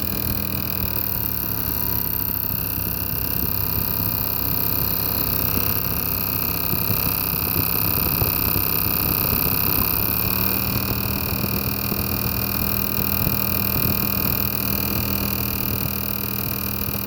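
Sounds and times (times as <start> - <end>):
car engine whine and hum: 0.0 - 17.0.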